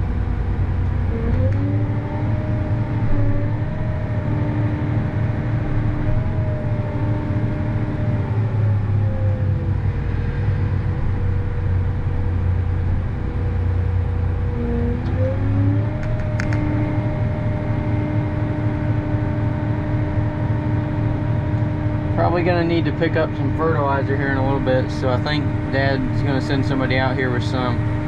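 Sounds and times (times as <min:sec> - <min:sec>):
engine whine: 0:00.0 - 0:28.0
tractor engine running: 0:00.0 - 0:28.0.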